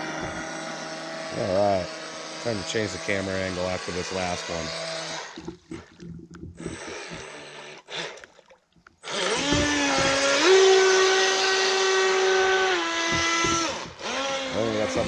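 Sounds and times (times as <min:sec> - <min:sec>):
model boat motor whining: 0:00.0 - 0:05.7, 0:06.4 - 0:08.3, 0:09.0 - 0:15.0.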